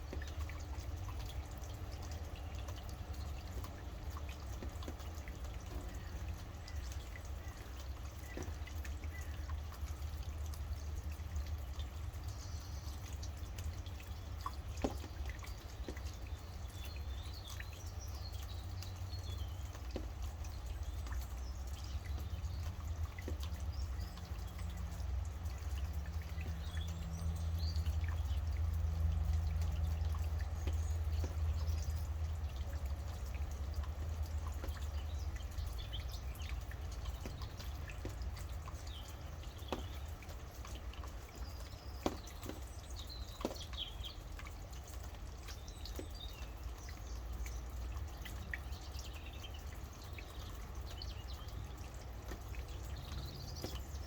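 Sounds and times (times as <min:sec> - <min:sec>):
birds chirping: 0:00.0 - 0:54.0
rain dripping: 0:00.0 - 0:54.0.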